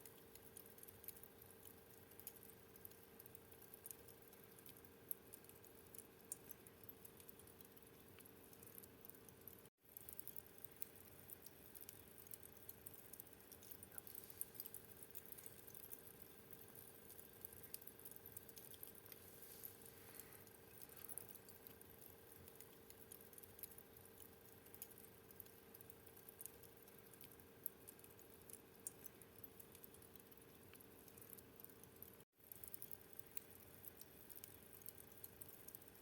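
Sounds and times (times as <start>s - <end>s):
low steady hum: 0.0s - 36.0s
wood fire crackling: 0.0s - 36.0s.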